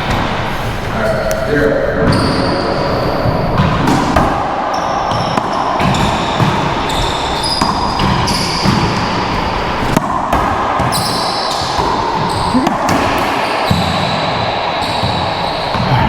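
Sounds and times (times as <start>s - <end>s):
racquetball strikes echoing: 0.0s - 16.0s.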